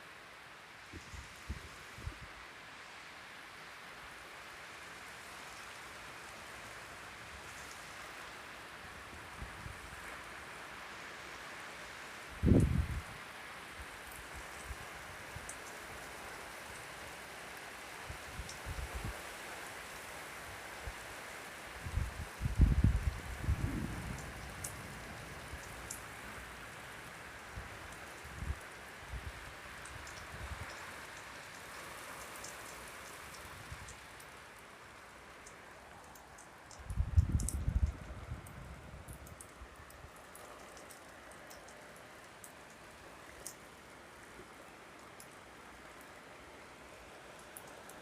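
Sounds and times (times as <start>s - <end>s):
heavy rain falling: 0.1s - 48.0s.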